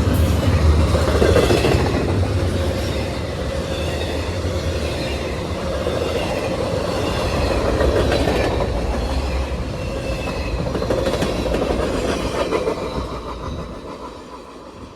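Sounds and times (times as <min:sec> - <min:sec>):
train wheels clacking over rails: 0:00.0 - 0:14.9.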